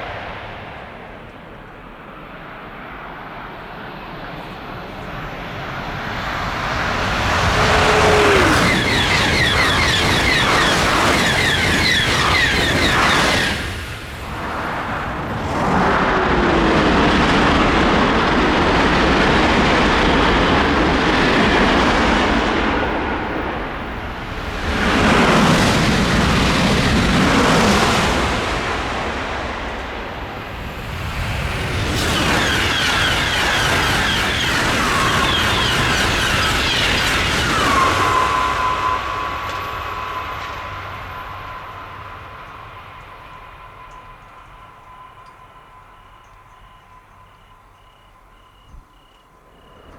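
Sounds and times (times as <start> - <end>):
high-speed train passing: 0.0 - 49.9.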